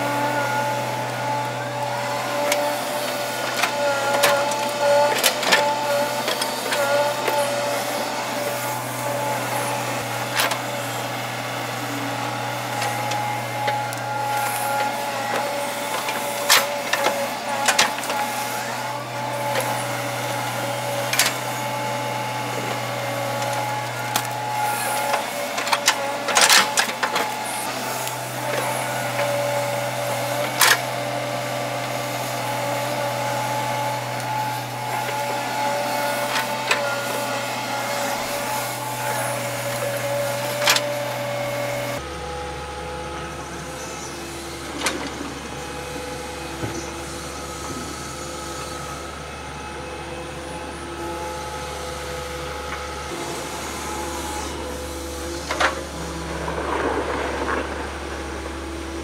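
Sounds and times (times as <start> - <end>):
excavator engine hum and whine: 0.0 - 59.0.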